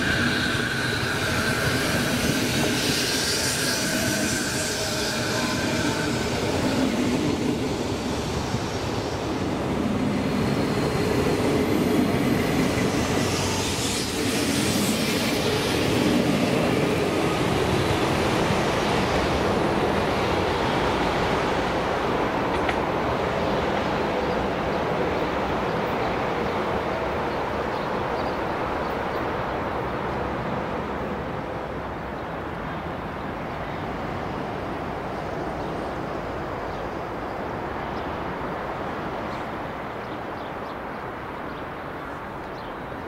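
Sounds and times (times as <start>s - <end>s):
train rumble: 0.0s - 43.0s.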